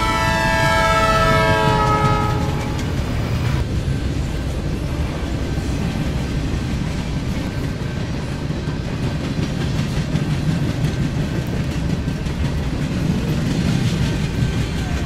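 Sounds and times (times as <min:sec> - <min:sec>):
tram rumbling: 0:00.0 - 0:15.0
wheels clattering on rails: 0:00.0 - 0:15.0.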